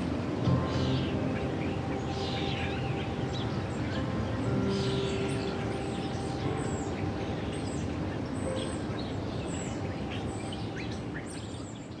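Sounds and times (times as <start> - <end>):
small birds chirping: 0.5 - 12.0.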